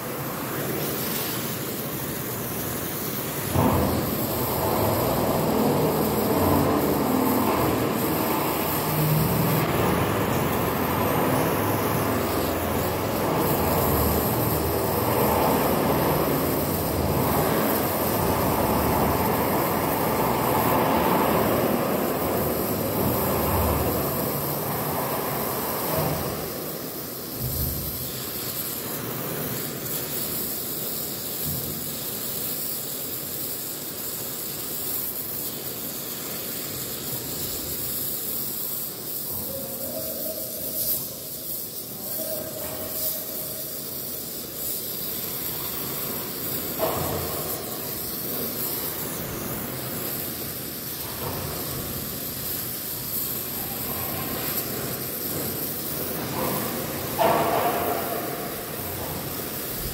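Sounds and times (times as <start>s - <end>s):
torch flame hissing: 0.0s - 59.9s.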